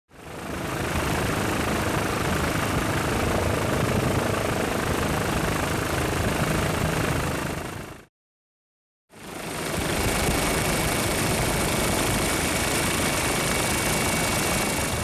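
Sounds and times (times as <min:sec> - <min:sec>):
helicopter rotor and engine: 0:00.1 - 0:08.1, 0:09.1 - 0:15.0.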